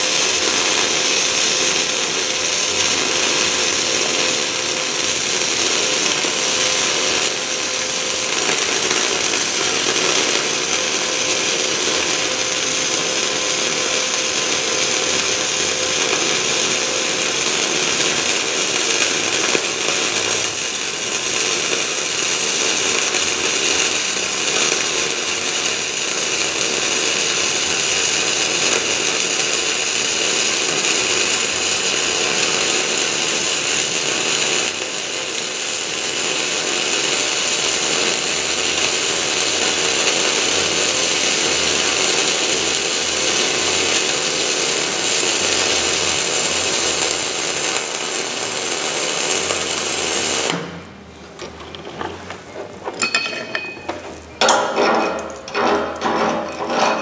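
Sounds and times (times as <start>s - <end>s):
welding arc crackling and hissing: 0.0s - 57.0s.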